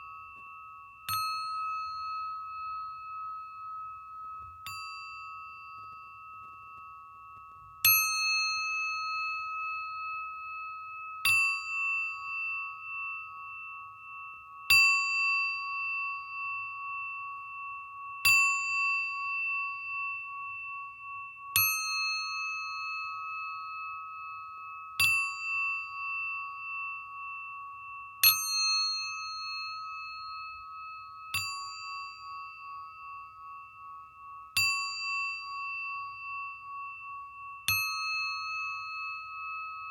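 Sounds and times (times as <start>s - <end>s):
singing bowl ringing: 0.0s - 39.9s.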